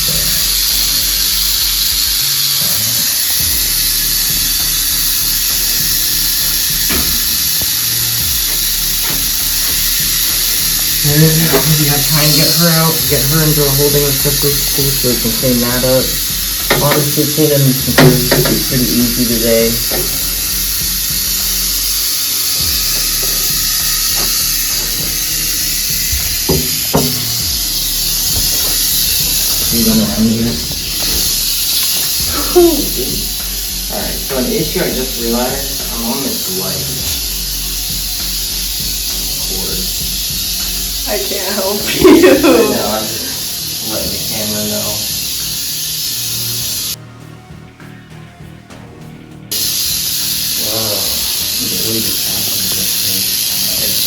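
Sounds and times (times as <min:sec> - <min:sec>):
rattlesnake rattling: 0:00.0 - 0:47.0, 0:49.5 - 0:54.0.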